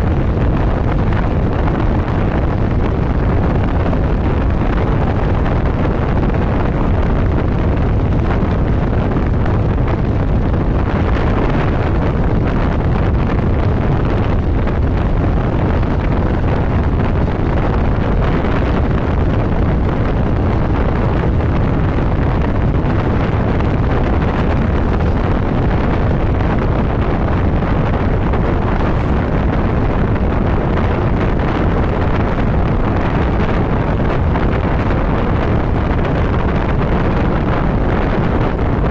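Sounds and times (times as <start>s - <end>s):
motorcycle running: 0.0s - 38.9s
wind rush on microphone: 0.0s - 38.9s.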